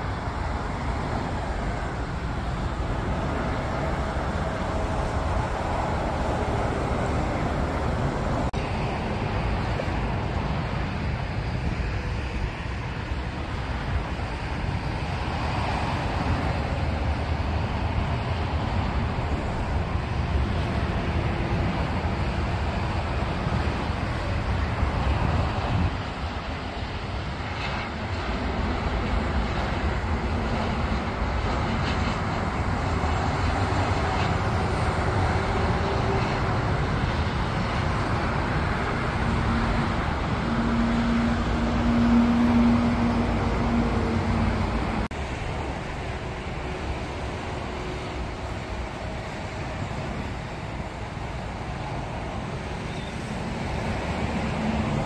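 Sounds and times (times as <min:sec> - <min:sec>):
jet engine rushing: 0:00.0 - 0:55.0.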